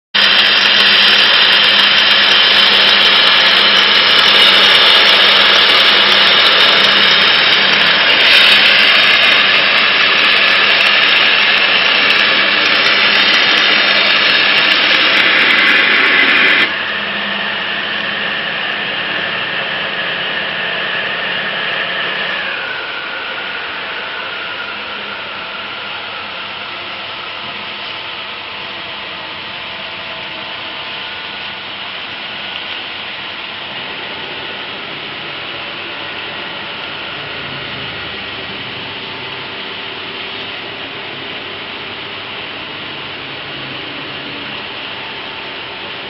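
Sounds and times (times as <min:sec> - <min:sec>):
waterjet cutter hissing: 0:00.2 - 0:46.0.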